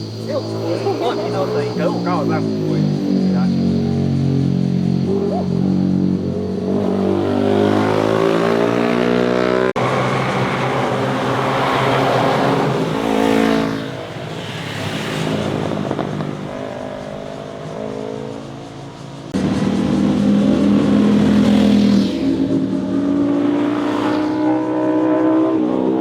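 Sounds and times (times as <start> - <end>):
motorcycles accelerating past: 0.0 - 26.0.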